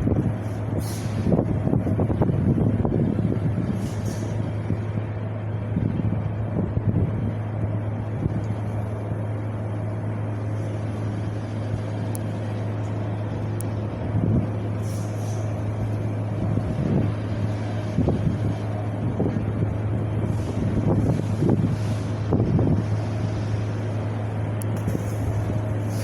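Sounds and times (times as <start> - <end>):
wind gusts on microphone: 0.0 - 9.0, 13.1 - 26.0
constant low hum: 0.0 - 26.0.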